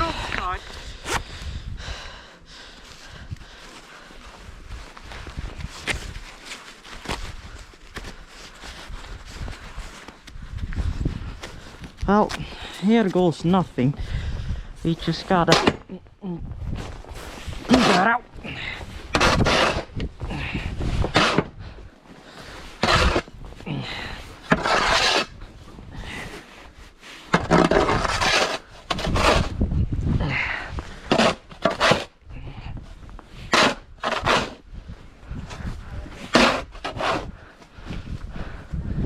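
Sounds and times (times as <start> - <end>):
snow scraping and crunching: 2.6 - 15.7, 16.6 - 32.2, 32.9 - 38.7.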